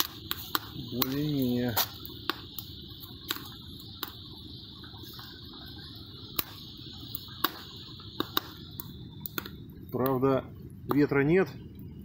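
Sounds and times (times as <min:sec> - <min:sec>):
sharp pops: 0:00.0 - 0:11.1
meat frying hiss: 0:00.0 - 0:11.5.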